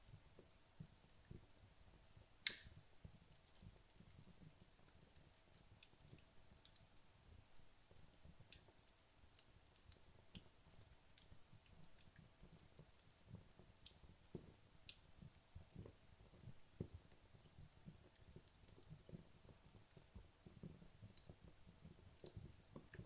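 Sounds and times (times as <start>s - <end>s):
wood logs crackling in fireplace: 0.0s - 23.0s.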